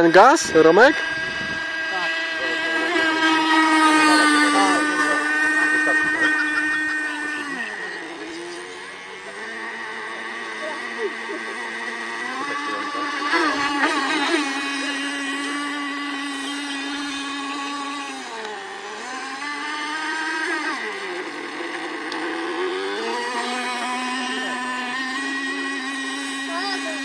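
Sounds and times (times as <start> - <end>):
model boat engine whining: 0.0 - 27.0.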